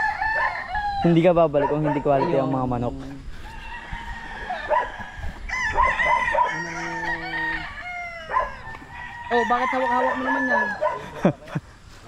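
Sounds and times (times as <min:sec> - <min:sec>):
roosters crowing: 0:00.0 - 0:11.3.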